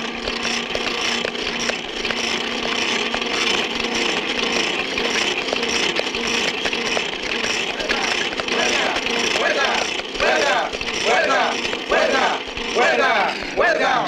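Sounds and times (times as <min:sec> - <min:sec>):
small clicks: 0:00.0 - 0:13.6
belts and pulleys clattering: 0:00.0 - 0:14.0
machinery humming: 0:00.0 - 0:14.0.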